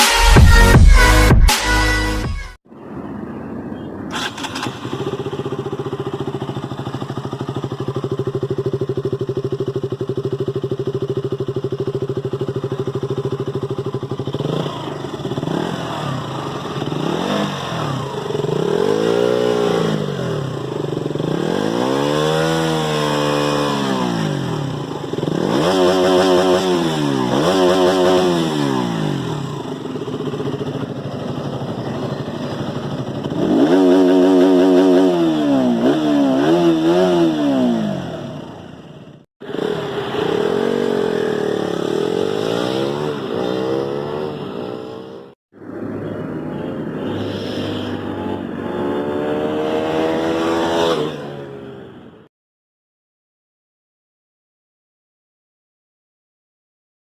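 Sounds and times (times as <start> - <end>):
motorcycle engine idling and revving: 3.8 - 52.3.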